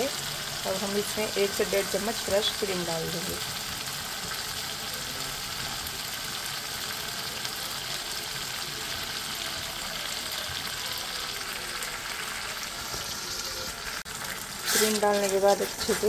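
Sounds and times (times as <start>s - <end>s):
masala sizzling in oil: 0.0s - 16.0s.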